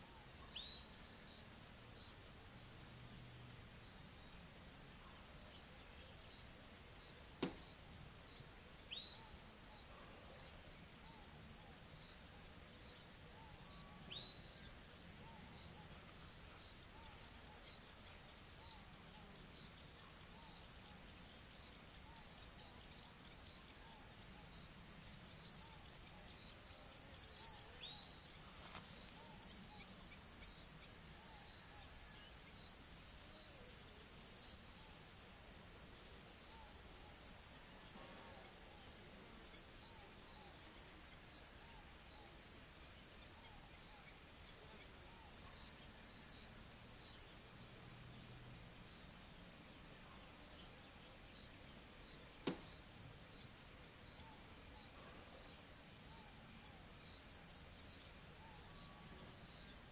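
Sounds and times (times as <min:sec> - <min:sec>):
crickets and insects chirping: 0:00.0 - 0:59.9.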